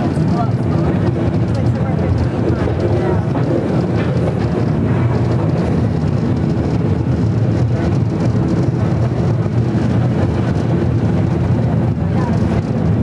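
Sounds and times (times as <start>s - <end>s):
cable car rumbling on rails: 0.0s - 13.0s.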